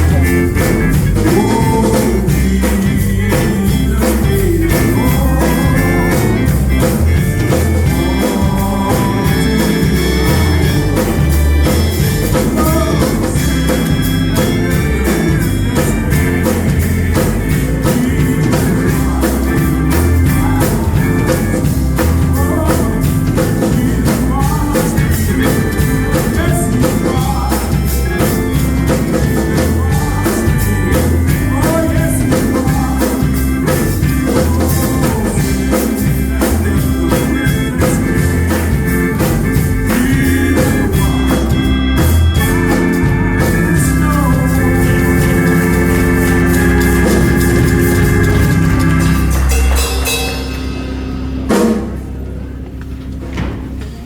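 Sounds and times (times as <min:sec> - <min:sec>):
people singing: 0:00.0 - 0:49.8
steady drum beat: 0:00.0 - 0:52.7
organ: 0:00.0 - 0:54.0.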